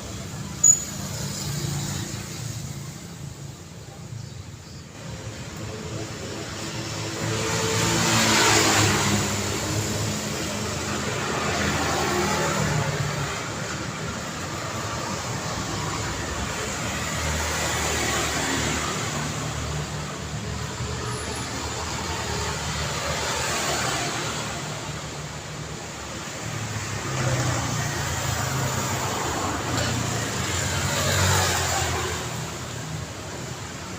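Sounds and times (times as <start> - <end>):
cars passing: 4.9 - 33.9.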